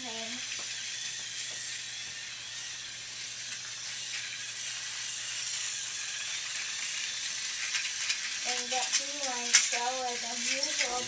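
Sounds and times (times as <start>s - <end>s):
toy trains whirring: 0.0s - 11.0s.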